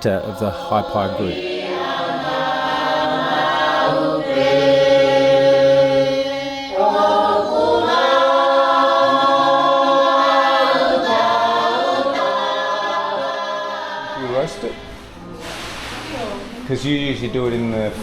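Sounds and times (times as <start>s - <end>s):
choir singing sustained chords: 0.0s - 15.1s.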